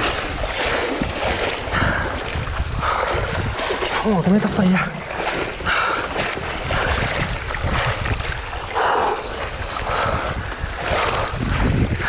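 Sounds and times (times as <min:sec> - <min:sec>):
splashing in shallow water: 0:00.0 - 0:12.0
wind buffeting microphone: 0:00.0 - 0:12.0.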